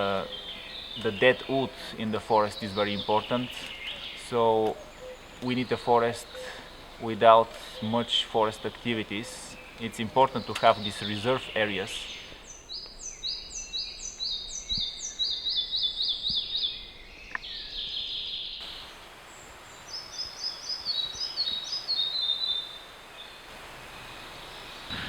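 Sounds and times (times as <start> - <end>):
small songbird singing: 0.0 - 25.0.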